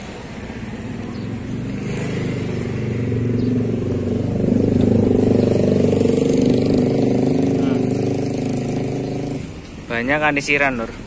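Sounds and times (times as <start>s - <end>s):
vehicle engine running: 0.0s - 9.7s.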